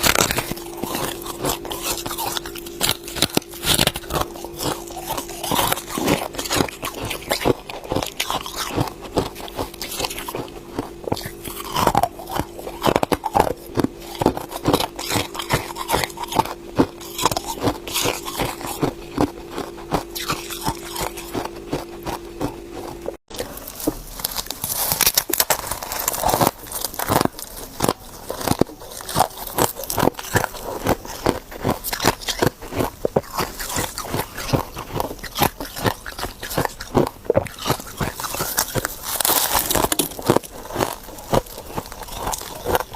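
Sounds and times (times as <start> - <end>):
faint hum: 0.0 - 42.9
ice crunching in chewing: 0.0 - 42.9.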